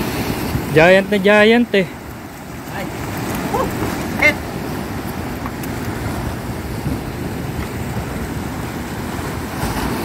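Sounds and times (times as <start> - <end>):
wind on microphone: 0.0 - 1.2, 2.0 - 10.0.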